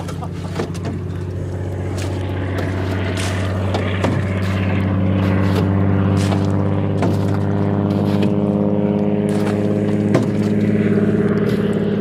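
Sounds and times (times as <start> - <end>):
floatplane piston engine droning: 0.0 - 12.0.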